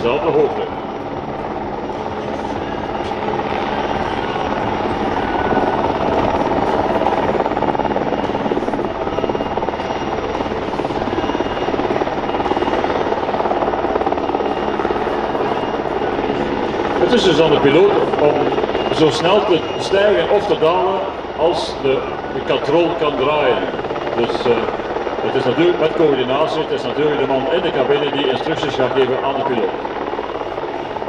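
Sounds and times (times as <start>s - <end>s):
helicopter rotor beating: 0.0s - 31.0s
turbine engine whine: 0.0s - 31.0s.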